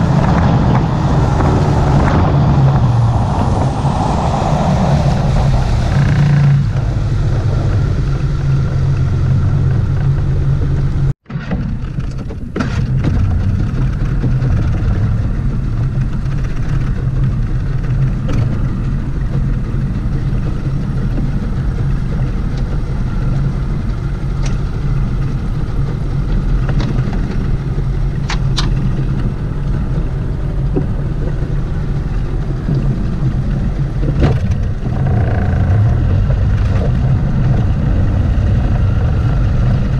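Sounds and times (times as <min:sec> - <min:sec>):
outboard motor running: 0:04.8 - 0:39.9.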